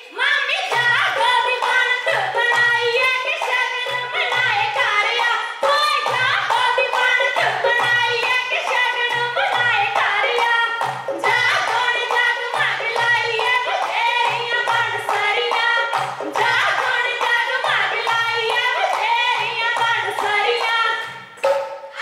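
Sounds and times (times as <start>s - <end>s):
rhythmic hand-clapping: 0.0s - 22.0s
women singing folk song: 0.0s - 22.0s.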